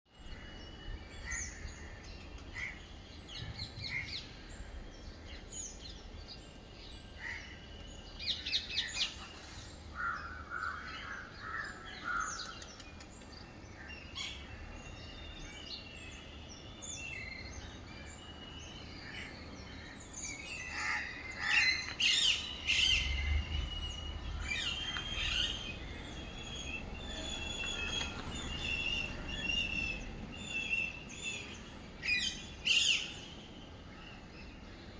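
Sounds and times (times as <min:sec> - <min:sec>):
small birds chirping and singing: 0:00.2 - 0:34.8.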